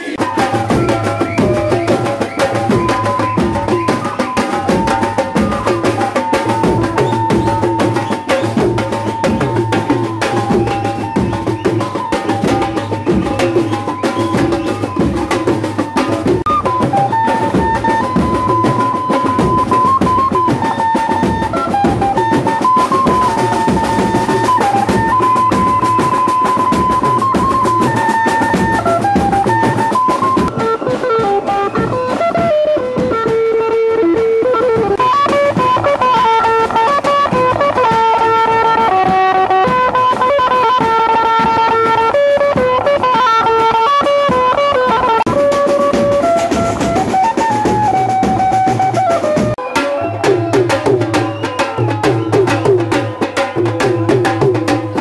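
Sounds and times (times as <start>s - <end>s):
melody instrument playing tune: 0.0s - 54.9s
side drums and bass drum: 0.0s - 55.0s.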